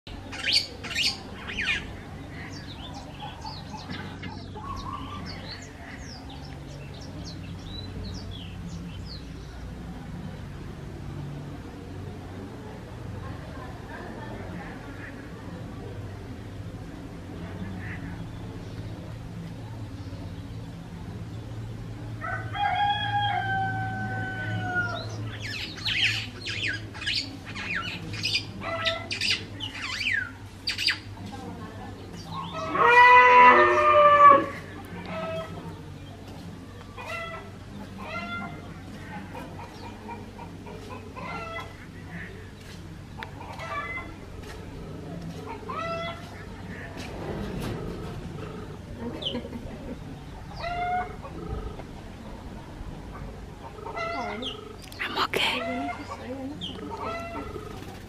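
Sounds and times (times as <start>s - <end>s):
birds calling and chirping: 0.1s - 58.0s.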